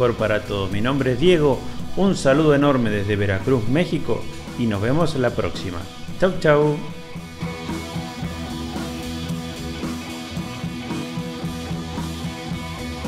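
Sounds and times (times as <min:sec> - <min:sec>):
strummed guitar music: 0:00.0 - 0:13.0.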